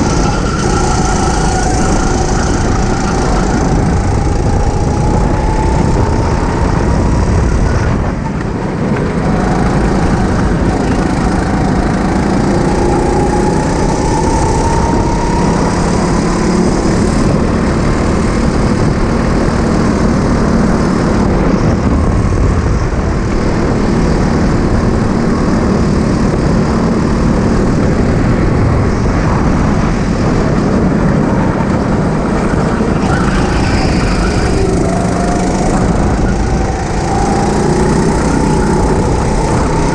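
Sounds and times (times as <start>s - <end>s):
go-kart engine running: 0.0s - 39.9s
track noise: 0.0s - 39.9s
wind rushing: 0.0s - 39.9s.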